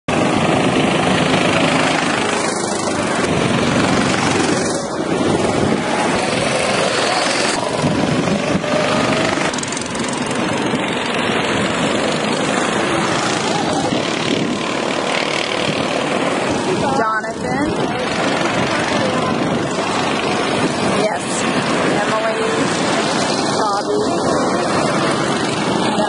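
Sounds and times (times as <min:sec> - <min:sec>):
go-kart engines driving past: 0:00.1 - 0:26.0.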